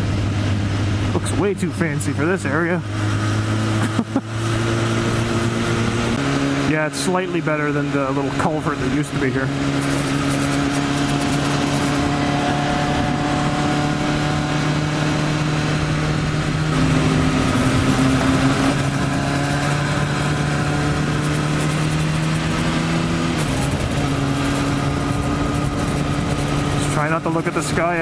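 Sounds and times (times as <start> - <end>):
motorcycle engine cruising: 0.0 - 28.0
wind and road noise: 0.0 - 28.0.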